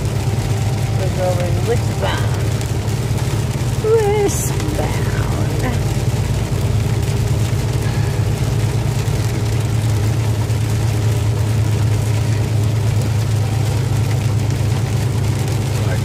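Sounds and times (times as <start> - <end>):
truck diesel engine drone: 0.0 - 16.0
tyres hissing on wet road: 0.0 - 16.0.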